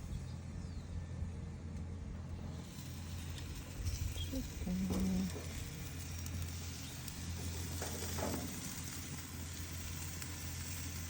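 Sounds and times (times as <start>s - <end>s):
chicken sizzling on a grill: 2.1s - 11.0s.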